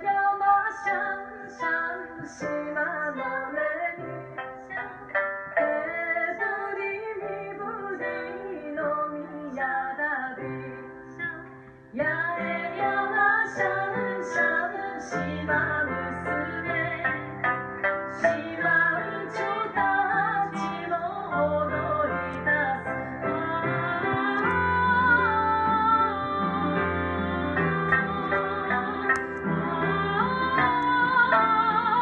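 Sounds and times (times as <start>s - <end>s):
piano: 0.0s - 32.0s
women singing together: 5.6s - 32.0s.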